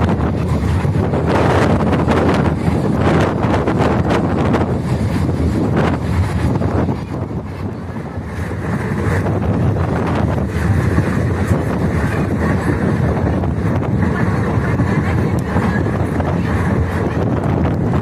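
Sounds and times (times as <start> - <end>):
train rumbling on track: 0.0 - 18.0
wind buffeting microphone: 0.0 - 18.0.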